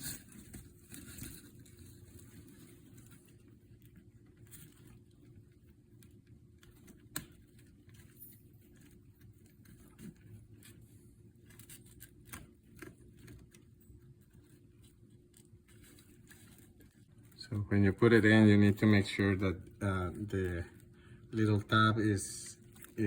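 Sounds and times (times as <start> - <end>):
plastic rustles: 0.0 - 23.0.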